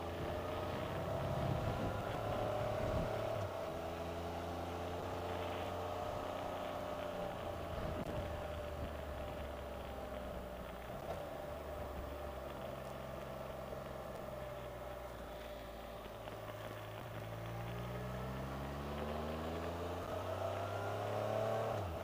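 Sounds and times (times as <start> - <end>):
three-cylinder engine accelerating: 0.0 - 22.0.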